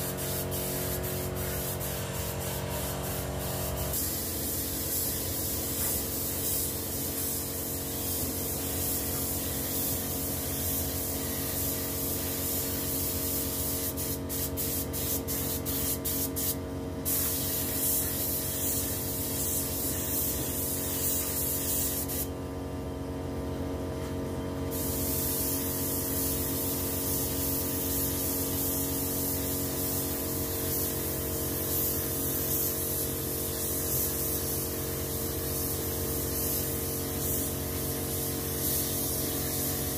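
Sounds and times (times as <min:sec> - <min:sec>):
spray gun hissing: 0:00.0 - 0:22.3, 0:24.7 - 0:39.9.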